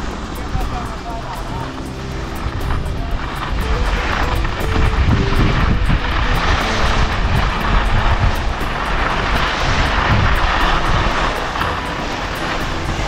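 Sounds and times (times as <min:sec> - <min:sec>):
skis sliding on snow: 0:00.0 - 0:13.0
wind rushing over microphone: 0:00.0 - 0:13.0.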